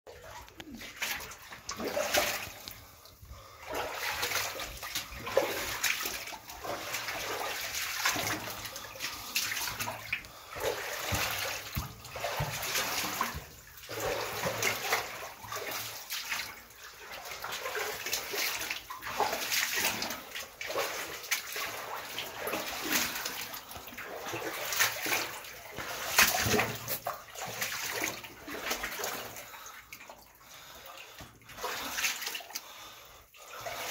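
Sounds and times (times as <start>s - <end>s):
footsteps splashing through water: 0.2s - 2.8s, 3.7s - 30.0s.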